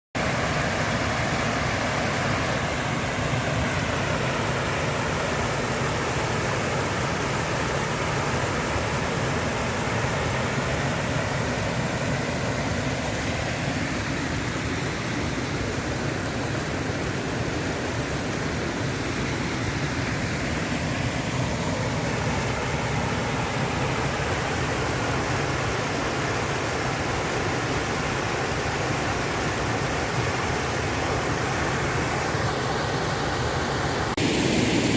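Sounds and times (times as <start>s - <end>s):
water rushing over rocks: 0.2s - 34.9s.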